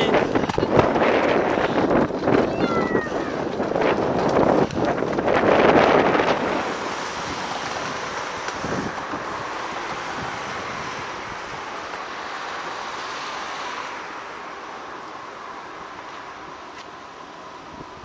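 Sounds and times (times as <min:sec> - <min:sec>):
wind rushing over microphone: 0:00.0 - 0:14.4.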